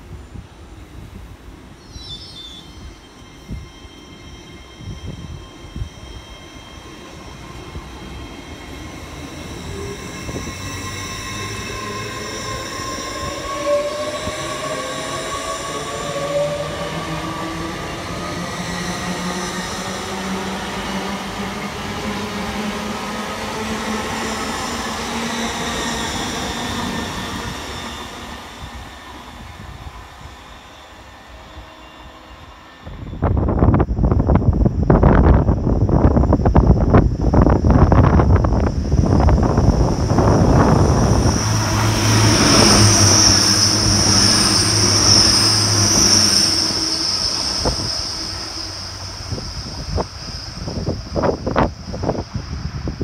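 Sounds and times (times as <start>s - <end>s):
train passing at speed: 0.0s - 53.0s.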